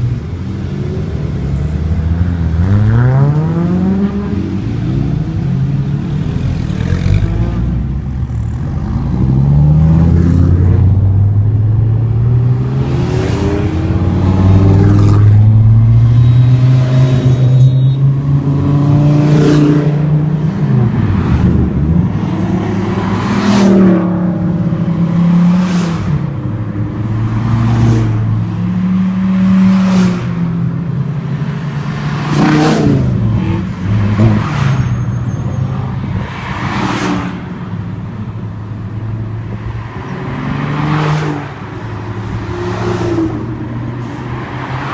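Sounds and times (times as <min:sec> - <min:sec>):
cars passing by close: 0:00.0 - 0:44.9
sports car engines revving: 0:00.0 - 0:44.9.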